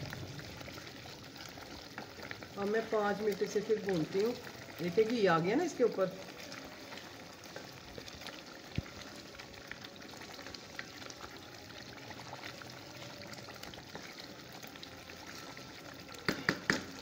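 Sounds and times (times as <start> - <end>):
masala sizzling and crackling: 0.0 - 17.0.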